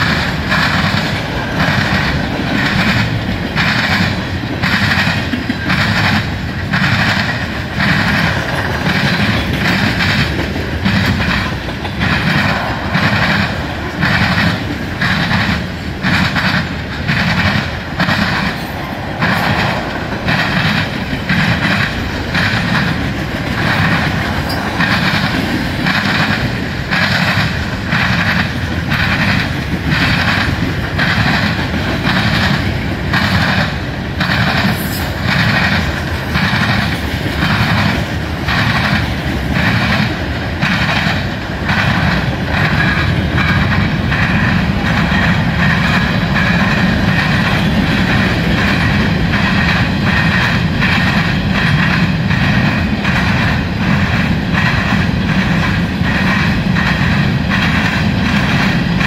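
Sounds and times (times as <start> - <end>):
clickety-clack of rail joints: 0.0 - 59.0
train wheels rumbling on rail: 0.0 - 59.0.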